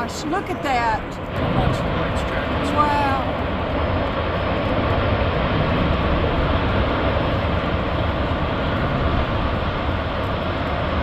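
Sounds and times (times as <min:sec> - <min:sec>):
tornado wind rushing: 0:00.0 - 0:11.0.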